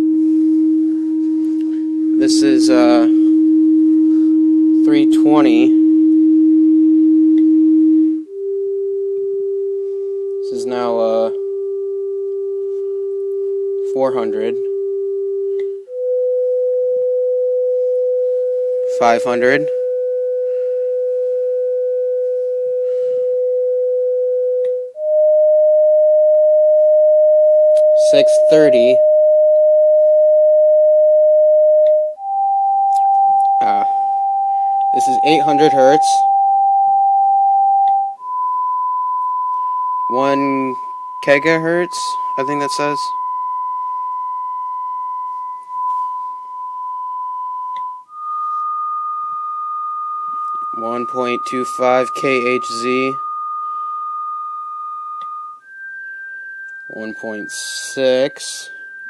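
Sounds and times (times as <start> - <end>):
sine test tone from loudspeaker: 0.0 - 59.0.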